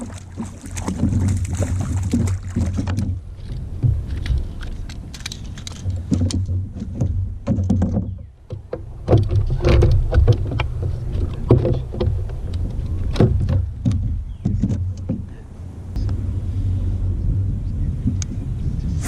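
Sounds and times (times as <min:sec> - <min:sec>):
low rumble: 0:00.0 - 0:07.5, 0:08.2 - 0:19.0
knocks and clatter on kayak: 0:00.0 - 0:15.5.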